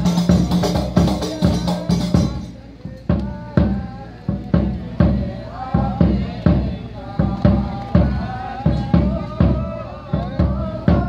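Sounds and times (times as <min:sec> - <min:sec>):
frame drums beating: 0:00.0 - 0:11.0
person singing: 0:00.0 - 0:11.0.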